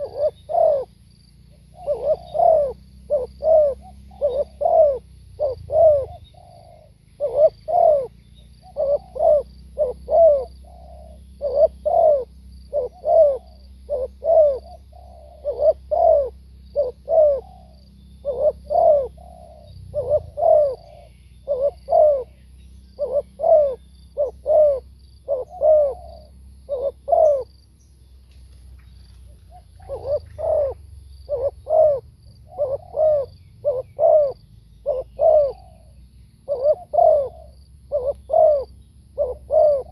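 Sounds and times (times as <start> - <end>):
dove cooing: 0.0 - 27.6, 29.0 - 39.9.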